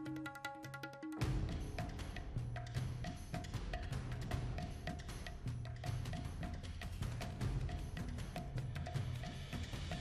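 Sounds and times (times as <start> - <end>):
music with percussive beat: 0.0 - 10.0.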